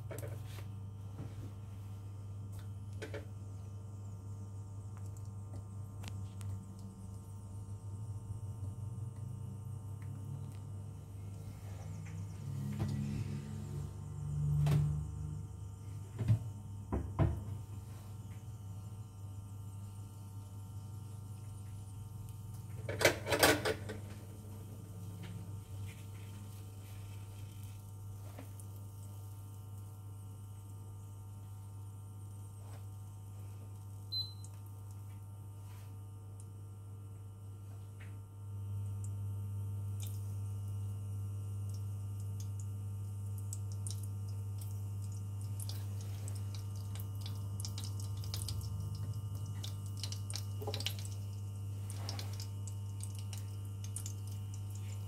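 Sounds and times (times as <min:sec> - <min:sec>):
electric hob humming: 0:00.0 - 0:55.0.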